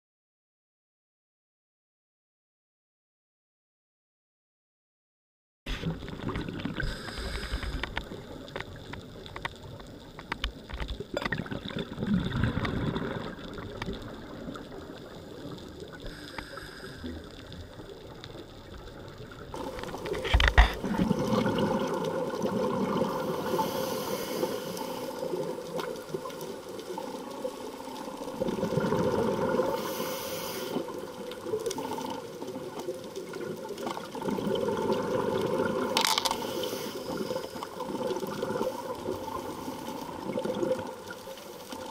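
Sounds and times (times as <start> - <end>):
muffled underwater rushing: 5.7 - 41.9.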